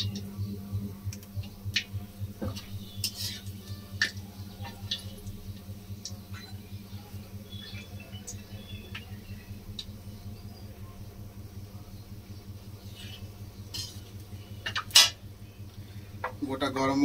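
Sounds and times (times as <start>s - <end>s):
steady low hum: 0.0s - 17.0s
hot oil crackling and popping: 1.0s - 10.4s, 12.1s - 16.5s.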